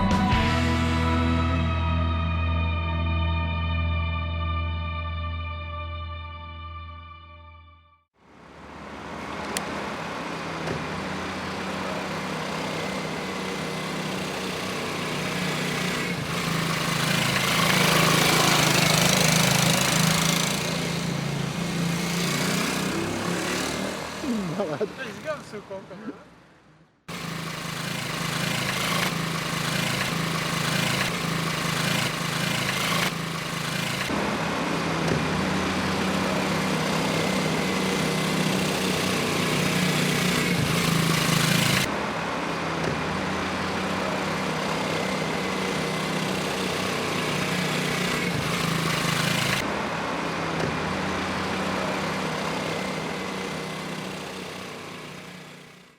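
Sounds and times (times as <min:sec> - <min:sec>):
small four-stroke engine running: 0:08.4 - 0:26.4, 0:27.1 - 0:55.9.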